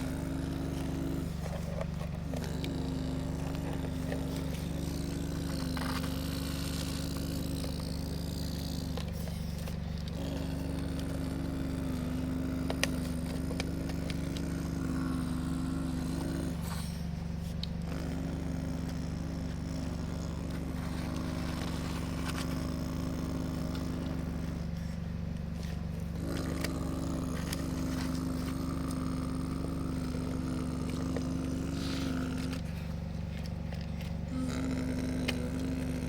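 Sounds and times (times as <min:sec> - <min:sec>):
excavator low mechanical hum: 0:00.0 - 0:36.0
high mechanical whine: 0:00.0 - 0:36.0.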